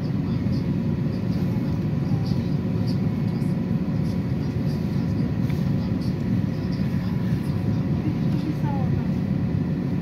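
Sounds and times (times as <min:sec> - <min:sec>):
bus engine and tyres rumbling: 0:00.0 - 0:10.0
faint whine: 0:00.0 - 0:10.0.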